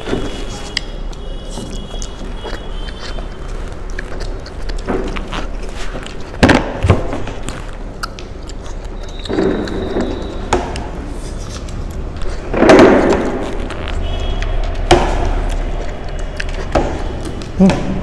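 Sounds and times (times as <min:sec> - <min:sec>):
chewing and slurping: 0:00.0 - 0:06.4, 0:07.2 - 0:17.6.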